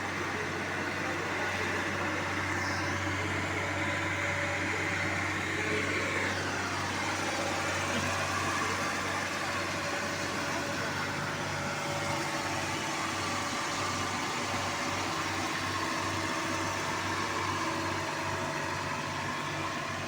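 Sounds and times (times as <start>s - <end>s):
machine engine running: 0.0s - 20.0s.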